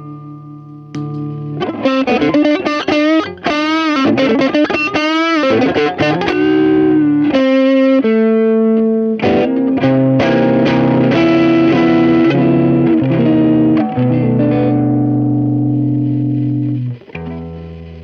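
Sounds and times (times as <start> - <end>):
overdriven electric guitar: 0.0 - 18.0.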